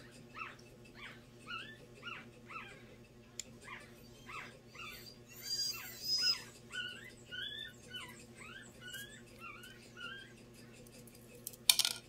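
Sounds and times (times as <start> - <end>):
puppy whimpering: 0.0 - 3.0, 3.6 - 10.8.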